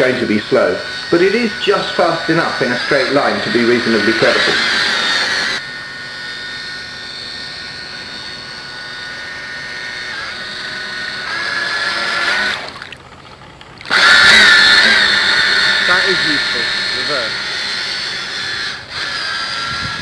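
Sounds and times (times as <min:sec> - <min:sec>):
electric motors whining: 0:00.0 - 0:20.0.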